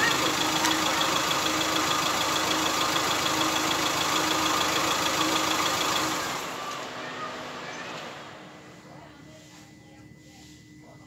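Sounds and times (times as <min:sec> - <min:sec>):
diesel engine idling: 0:00.0 - 0:09.2.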